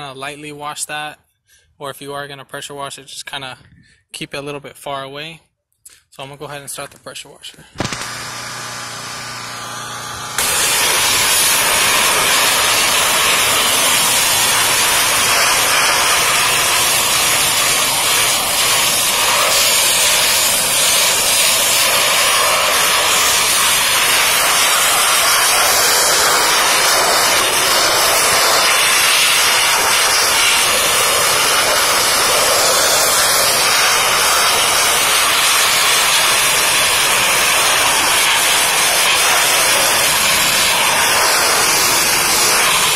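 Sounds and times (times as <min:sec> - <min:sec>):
pressure washer spraying: 0:07.8 - 0:42.9.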